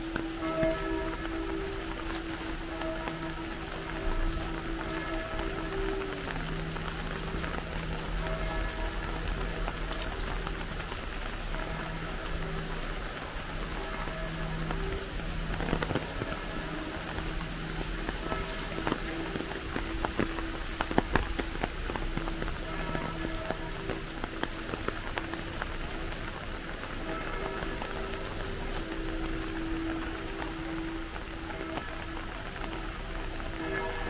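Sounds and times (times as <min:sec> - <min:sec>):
faint music with held notes: 0:00.0 - 0:34.0
steady rain falling: 0:00.0 - 0:34.0.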